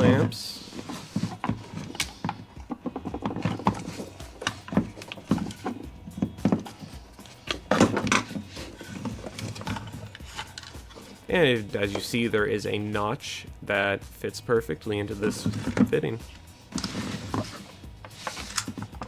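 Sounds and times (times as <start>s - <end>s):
hand tool clicking and knocking: 0.0s - 12.5s, 15.1s - 19.0s.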